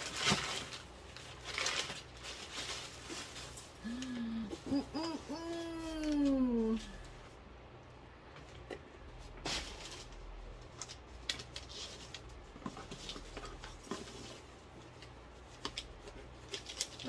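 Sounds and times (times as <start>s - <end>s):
gift wrap crinkling: 0.0s - 7.1s, 9.4s - 17.0s.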